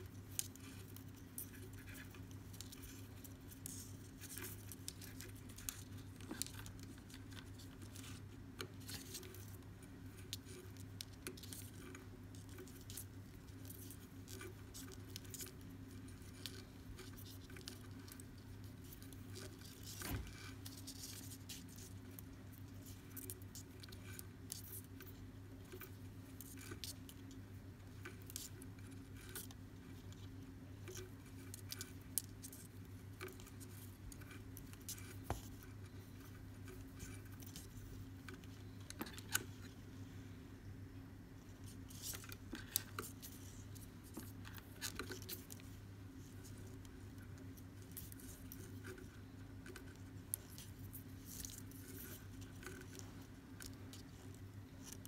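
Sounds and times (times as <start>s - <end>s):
cord rustling and ticking: 0.0s - 40.0s, 41.4s - 55.0s
steady low hum: 0.0s - 55.0s.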